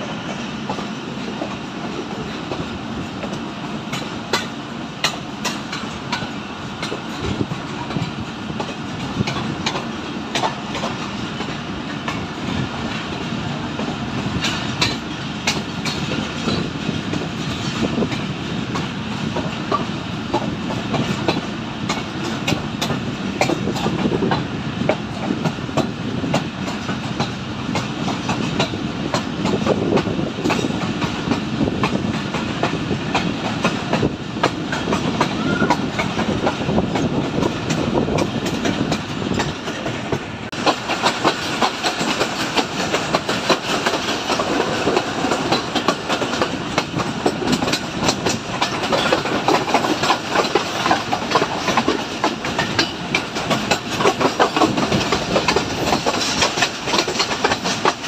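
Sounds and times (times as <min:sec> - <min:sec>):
train rumbling: 0:00.0 - 0:58.0
wheels clicking over rails: 0:00.0 - 0:58.0.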